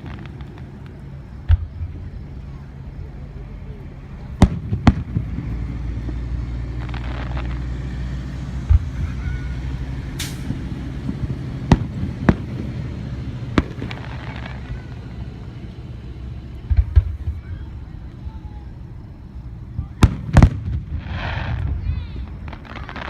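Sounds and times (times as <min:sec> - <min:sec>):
fireworks bangs: 0:00.0 - 0:03.1, 0:03.7 - 0:23.0
firework hiss: 0:00.0 - 0:23.0.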